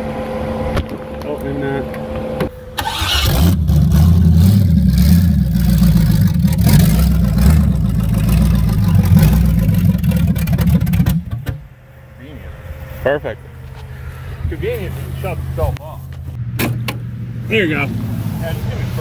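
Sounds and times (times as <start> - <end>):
car engine rough rumble: 0.0 - 19.0.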